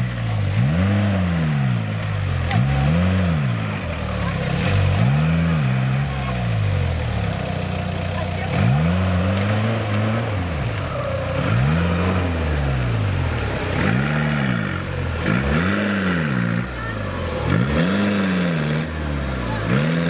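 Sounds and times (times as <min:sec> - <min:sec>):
diesel engine revving: 0:00.0 - 0:20.0.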